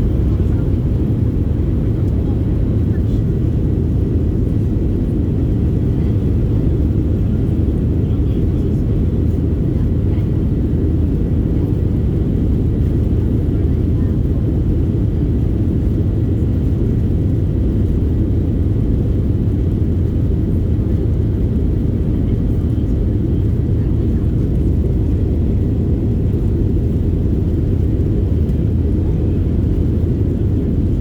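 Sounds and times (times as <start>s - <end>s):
aircraft engines droning: 0.0s - 31.0s.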